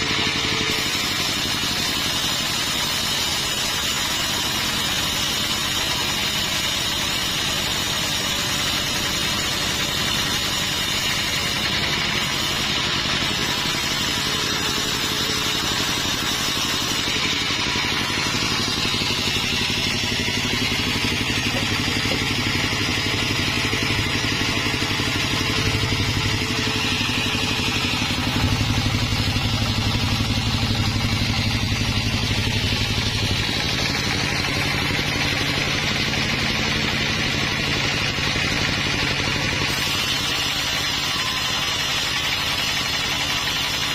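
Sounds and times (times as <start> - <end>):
engine hum: 0.0 - 3.4, 9.9 - 43.3
saw whine: 0.0 - 43.9.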